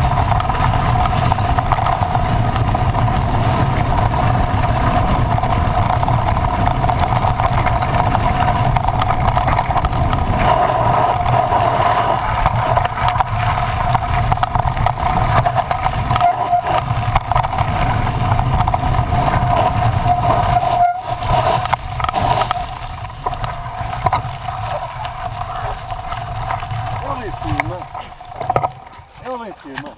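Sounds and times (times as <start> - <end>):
vehicle engine rumbling with whine: 0.0 - 29.3.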